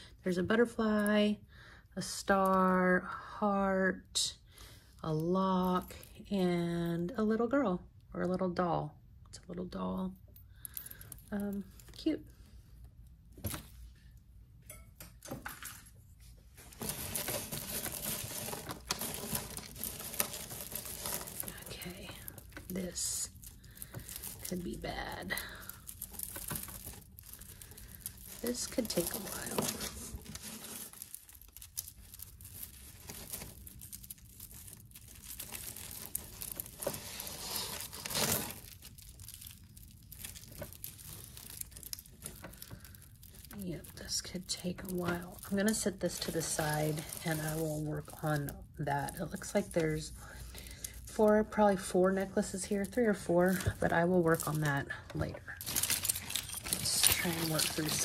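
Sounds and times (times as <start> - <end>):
beaded necklaces clicking and rustling: 10.1 - 58.0.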